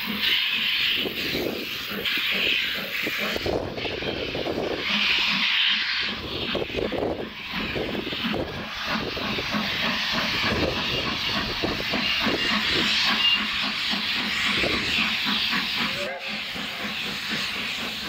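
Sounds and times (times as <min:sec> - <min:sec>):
steady hiss of steam: 0:00.0 - 0:18.0
steam locomotive exhaust chuffs: 0:00.0 - 0:18.0.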